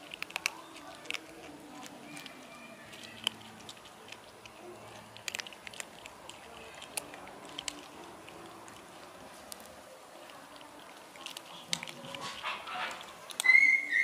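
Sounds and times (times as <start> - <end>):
kittens crunching dry kibble: 0.0 - 14.0.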